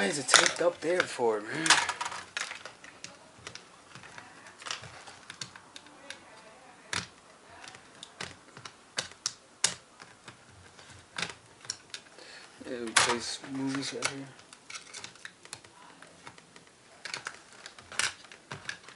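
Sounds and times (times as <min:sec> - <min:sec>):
fingers clicking laptop parts: 0:01.7 - 0:12.2, 0:13.7 - 0:18.9.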